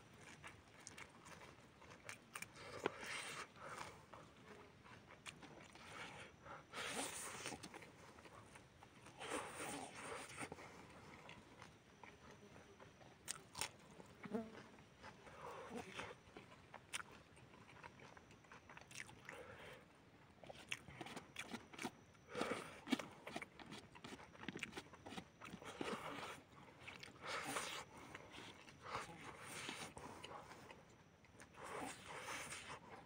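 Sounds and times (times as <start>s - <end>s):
person chewing noodles: 0.0s - 33.0s.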